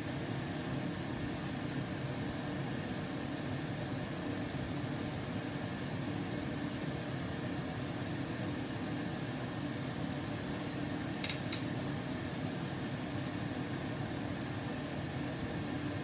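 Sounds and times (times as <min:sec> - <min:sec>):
fan or motor humming: 0:00.0 - 0:16.0.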